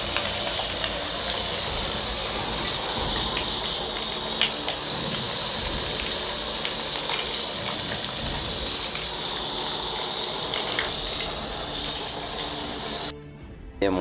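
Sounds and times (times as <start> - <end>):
fish frying in hot oil: 0.0 - 13.1.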